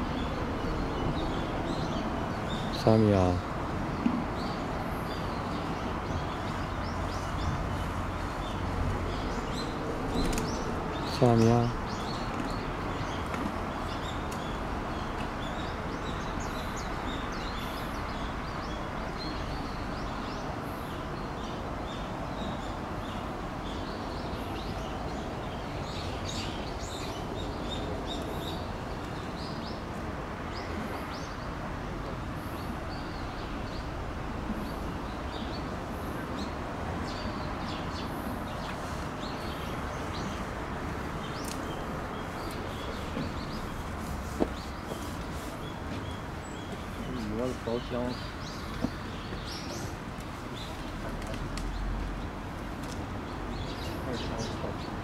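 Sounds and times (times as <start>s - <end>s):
outdoor background noise: 0.0s - 55.0s
small birds chirping: 0.0s - 55.0s.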